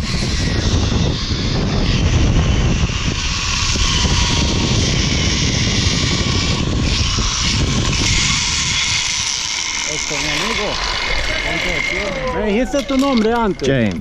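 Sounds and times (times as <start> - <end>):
pulleys whirring along steel cable: 0.0 - 14.0
wind buffeting microphone: 0.0 - 14.0.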